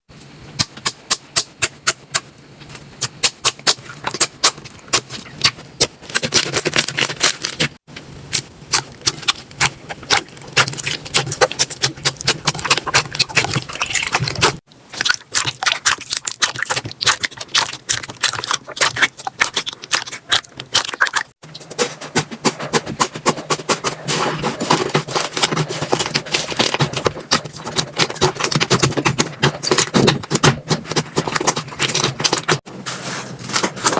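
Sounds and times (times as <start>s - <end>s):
slime squishing: 0.6s - 33.9s.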